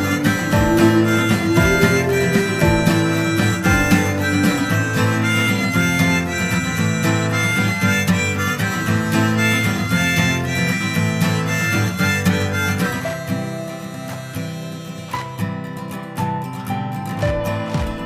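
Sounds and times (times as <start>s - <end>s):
harmonica: 0.0s - 15.5s
plucked acoustic guitar: 0.0s - 18.0s.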